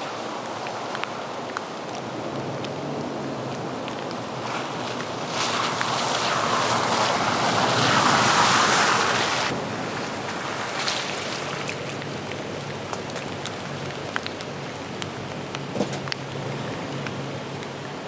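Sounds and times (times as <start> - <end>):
rain: 0.0 - 18.0.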